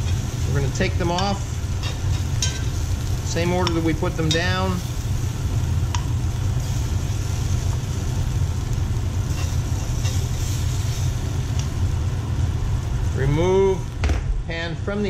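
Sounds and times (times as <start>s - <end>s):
oil sizzling: 0.0s - 15.0s
steady low rumble: 0.0s - 15.0s.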